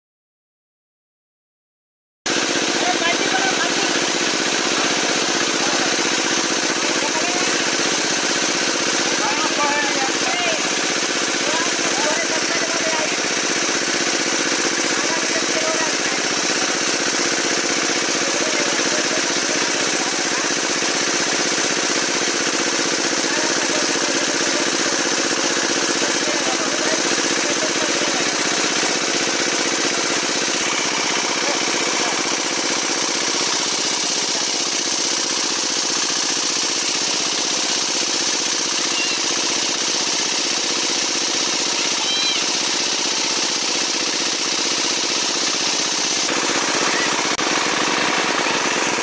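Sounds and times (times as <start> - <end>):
small engine running: 2.3 - 49.0.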